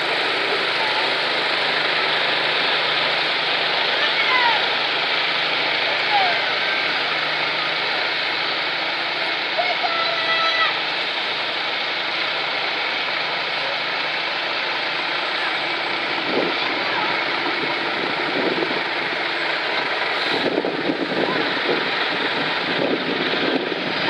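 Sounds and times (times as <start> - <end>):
truck engines driving past: 0.0 - 24.0
people talking: 0.1 - 1.8, 3.0 - 11.1, 12.3 - 24.0.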